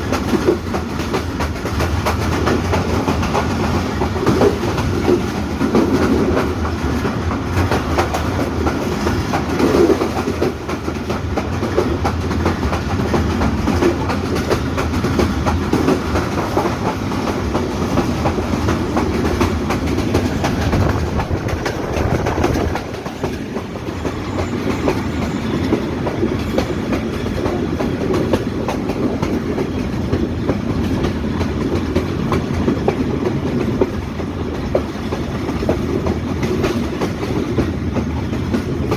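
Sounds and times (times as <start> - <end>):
train rumbling: 0.0 - 38.9
wheels clattering over rail joints: 0.1 - 38.9.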